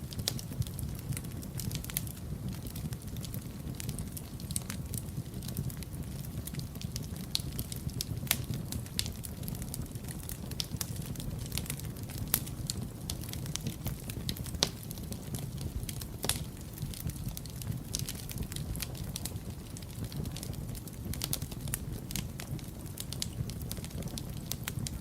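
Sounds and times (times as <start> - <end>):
fire crackling and popping: 0.0 - 25.0
wood fire burning: 0.0 - 25.0.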